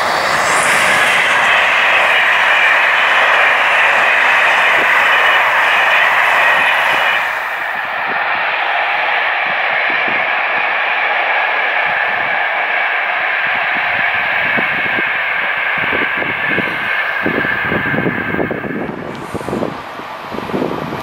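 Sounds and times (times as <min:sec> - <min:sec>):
distant train rolling: 0:00.0 - 0:21.0
wind buffeting microphone: 0:00.0 - 0:21.0.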